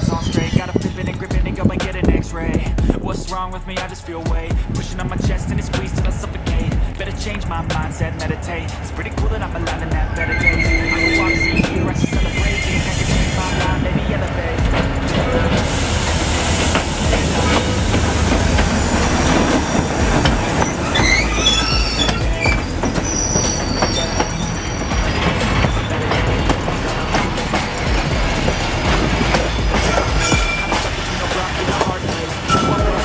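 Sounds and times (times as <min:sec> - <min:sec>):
wheels squealing on rails: 0:00.0 - 0:02.0, 0:04.8 - 0:33.0
locomotive engine rumbling: 0:00.0 - 0:33.0
wagon wheels clacking: 0:04.2 - 0:33.0.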